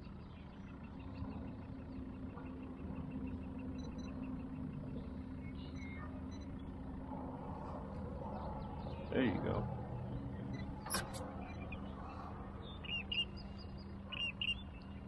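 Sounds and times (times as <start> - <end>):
faint low motor hum: 0.0 - 15.0.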